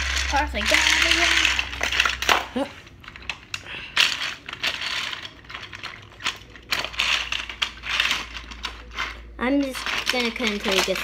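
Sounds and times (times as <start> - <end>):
toy train clicking rattle: 0.0 - 11.0.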